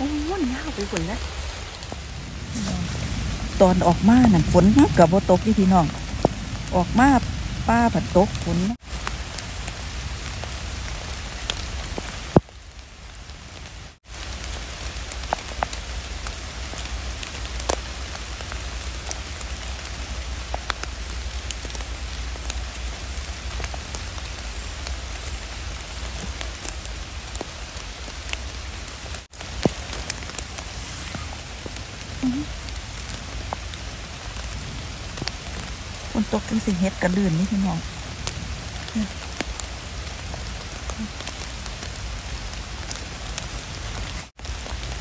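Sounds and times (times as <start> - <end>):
rain falling on leaves: 0.0 - 45.0.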